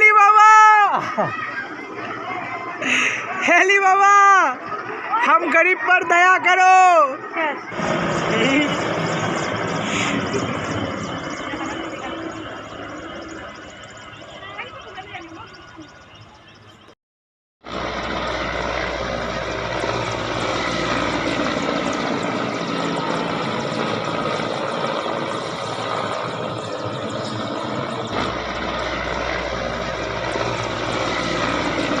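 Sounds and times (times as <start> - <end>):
helicopter flying overhead: 0.0 - 17.0, 17.6 - 32.0.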